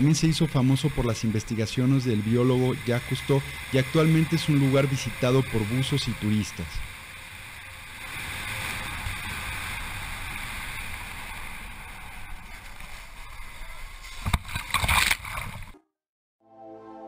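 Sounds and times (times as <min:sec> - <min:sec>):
steady rushing noise: 0:00.0 - 0:14.4.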